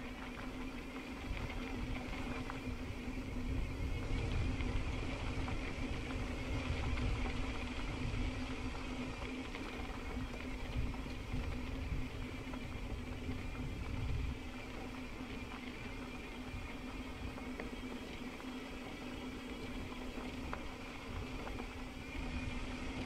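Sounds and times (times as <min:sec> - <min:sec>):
bike rattling and clicking: 0:00.0 - 0:23.0
steady low hum: 0:00.0 - 0:23.0
wind buffeting microphone: 0:00.0 - 0:23.0.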